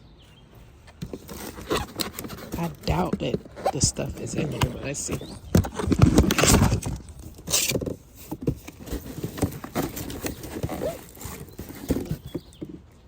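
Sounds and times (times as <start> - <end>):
cardboard boxes rustling and knocking: 0.9 - 13.0.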